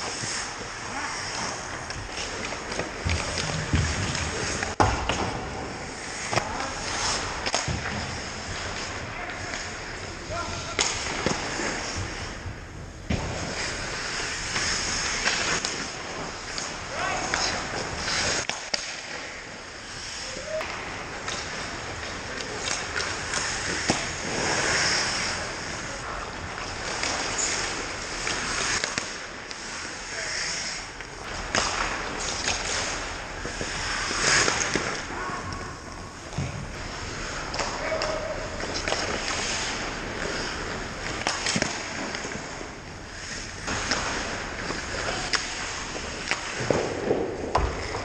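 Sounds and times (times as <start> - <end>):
hockey sticks and puck clacking: 0.0 - 48.0
skate blades scraping ice: 0.0 - 48.0.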